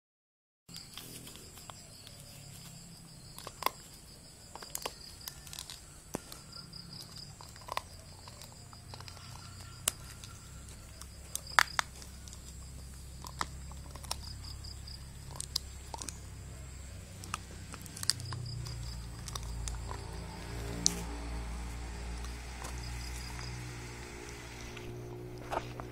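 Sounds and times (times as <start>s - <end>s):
insects chirping: 0.7s - 25.9s
dog gnawing on bone: 3.2s - 25.9s.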